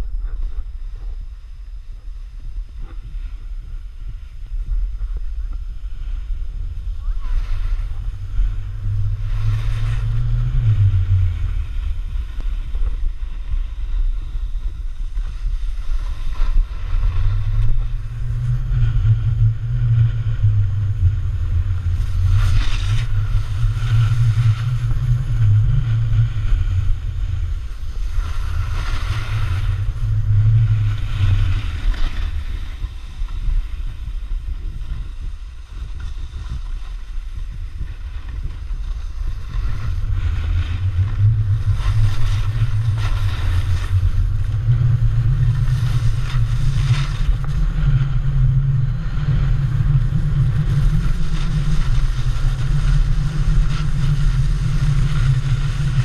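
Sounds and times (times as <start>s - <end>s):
snowboard scraping snow: 0.0s - 56.0s
wind buffeting microphone: 0.0s - 56.0s.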